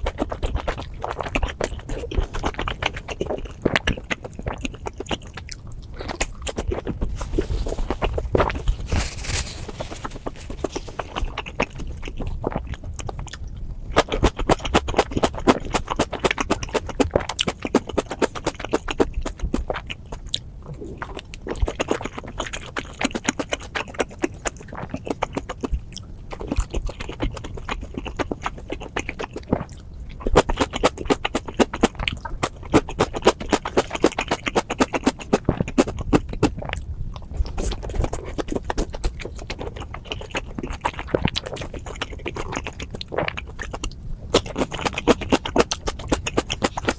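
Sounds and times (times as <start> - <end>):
wet chewing and mouth smacking: 0.0 - 46.9.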